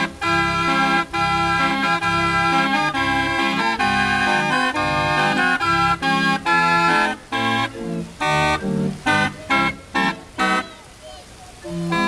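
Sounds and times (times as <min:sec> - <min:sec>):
barrel organ playing a tune: 0:00.0 - 0:10.7, 0:11.6 - 0:12.0.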